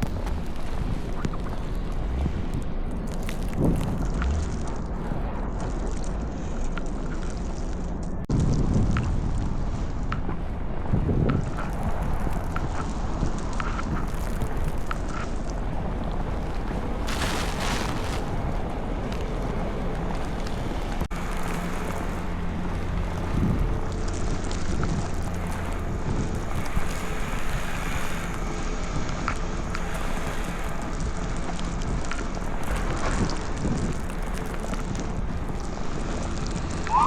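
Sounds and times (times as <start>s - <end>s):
city street traffic: 0.0s - 37.0s
wind buffeting microphone: 0.0s - 37.0s.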